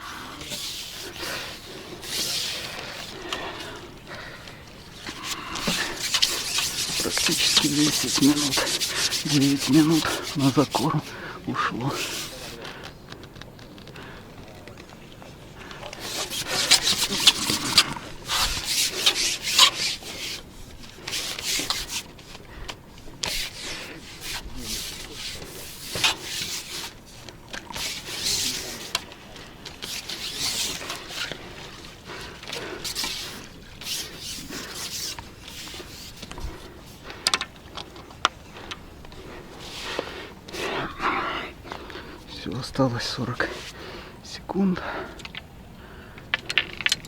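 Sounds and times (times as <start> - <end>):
rubbing and scraping: 0.0 - 14.1, 14.7 - 43.9.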